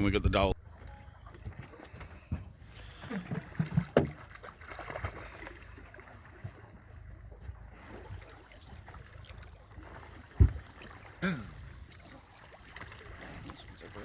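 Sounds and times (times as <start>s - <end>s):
low rumble of water: 0.0s - 14.0s
knocks and thumps in boat: 0.6s - 11.2s, 12.5s - 14.0s.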